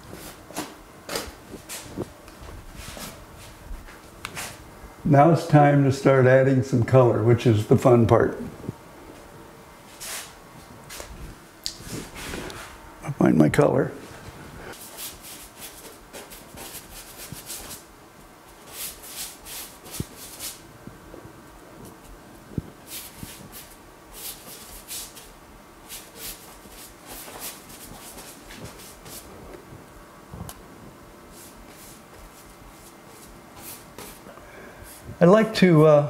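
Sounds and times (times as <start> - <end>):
rustling and rubbing of handling: 0.0 - 4.6, 9.1 - 12.8, 14.0 - 35.2
faint steady hum: 0.0 - 36.0.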